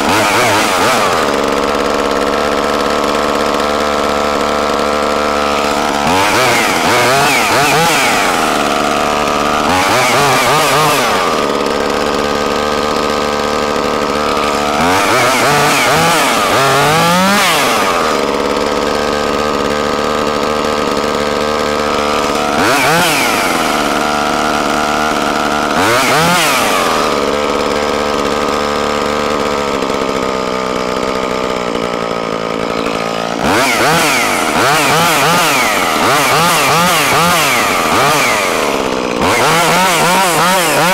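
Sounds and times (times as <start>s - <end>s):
chainsaw idling and revving: 0.0s - 40.9s.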